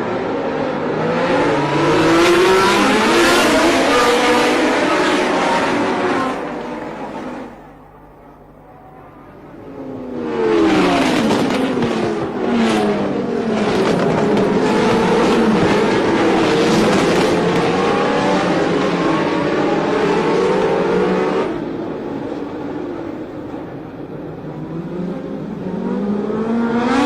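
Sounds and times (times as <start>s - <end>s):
racing cars passing at speed: 0.0s - 7.8s, 9.5s - 27.0s.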